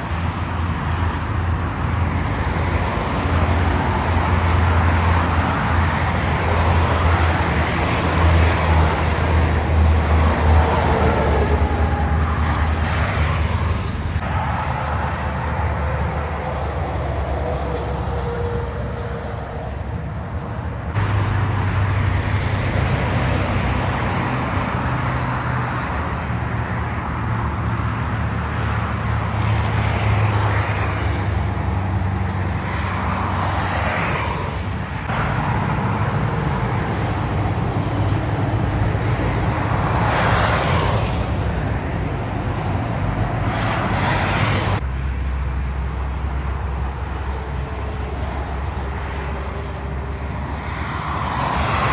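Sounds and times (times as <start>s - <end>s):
diesel truck engines humming: 0.0s - 26.9s, 34.8s - 51.9s
vehicles passing: 0.0s - 51.9s.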